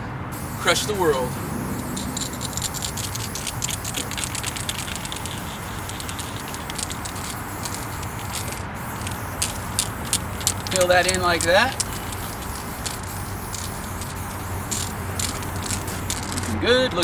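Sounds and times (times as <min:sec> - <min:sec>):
spray paint can hissing: 0:00.3 - 0:17.0.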